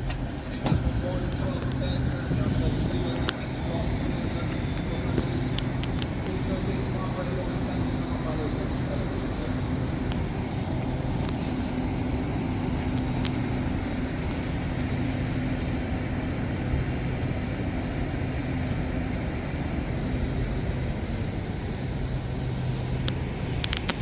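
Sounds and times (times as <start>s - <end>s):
low train hum: 0.0s - 24.0s
station background rumble: 0.0s - 24.0s.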